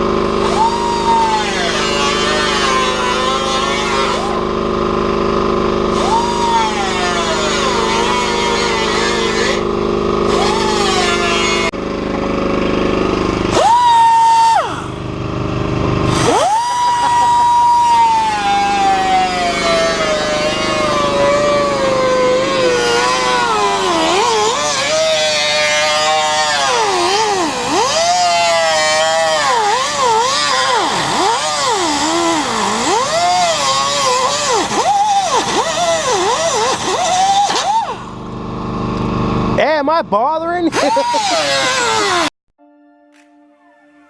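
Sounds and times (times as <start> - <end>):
power tool cutting sheet metal: 0.0 - 11.8, 12.8 - 39.4, 40.7 - 42.4.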